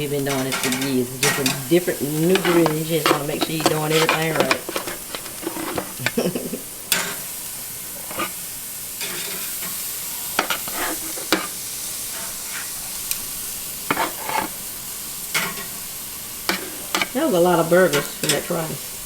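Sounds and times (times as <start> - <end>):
burger patties sizzling on grill: 0.0 - 19.0.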